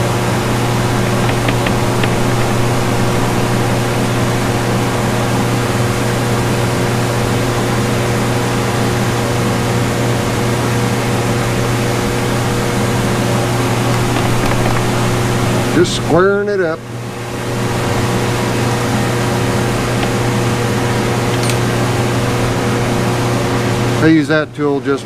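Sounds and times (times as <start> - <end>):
shop machinery humming: 0.0 - 24.4.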